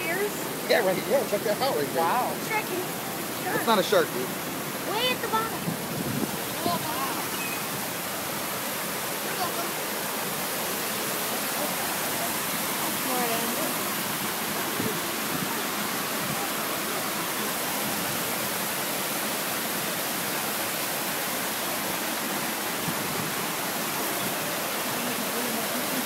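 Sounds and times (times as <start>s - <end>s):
waterfall splashing into pond: 0.0s - 26.0s.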